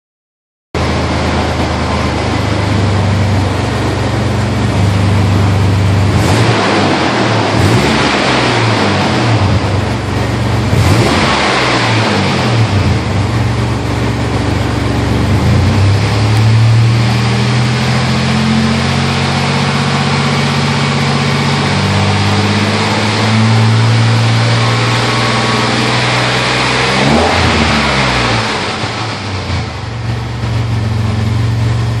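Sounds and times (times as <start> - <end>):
van engine idling and revving: 0.8 - 32.0.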